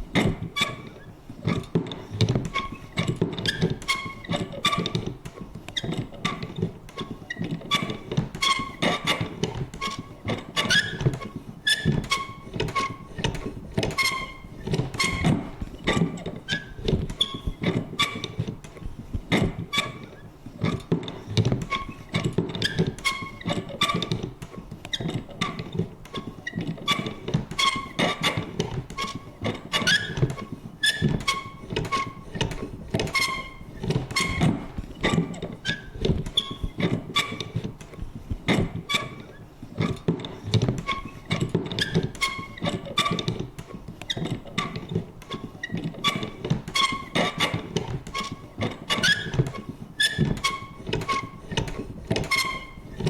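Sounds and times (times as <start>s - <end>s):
creaky squeaks: 0.2s - 53.0s.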